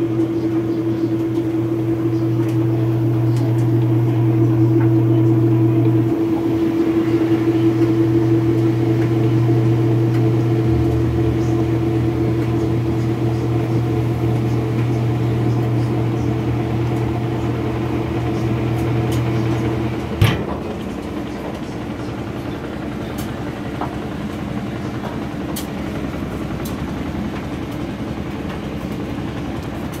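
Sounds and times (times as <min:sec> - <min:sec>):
washing machine clunk: 0:00.0 - 0:24.3
washing machine motor hum: 0:00.0 - 0:30.0.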